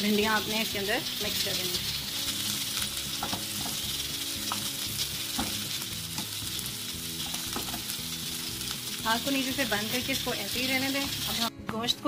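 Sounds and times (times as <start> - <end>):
vegetables sizzling in hot oil: 0.0 - 11.5.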